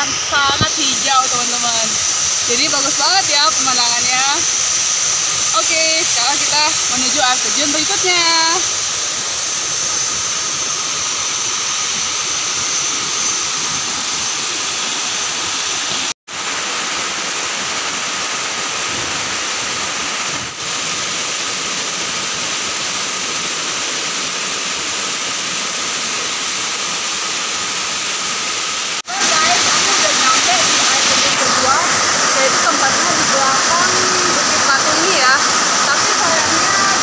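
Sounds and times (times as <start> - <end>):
falling water rushing: 0.0 - 37.0.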